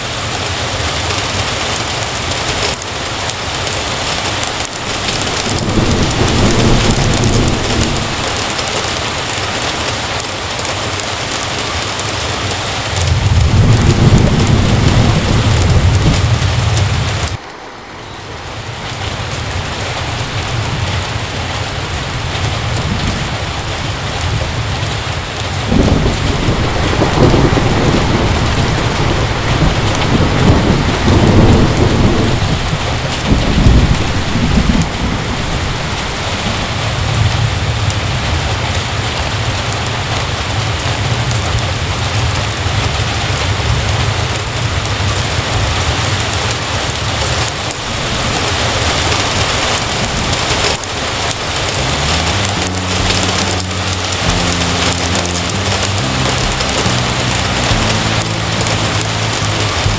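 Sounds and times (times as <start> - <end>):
heavy rain: 0.0 - 59.9
thunder rumbling: 0.9 - 59.9.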